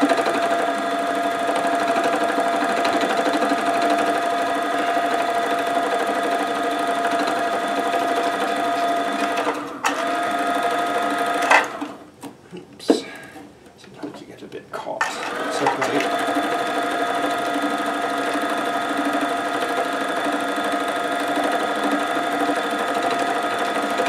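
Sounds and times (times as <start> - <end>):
felting machine running: 0.0 - 12.0, 15.0 - 24.0.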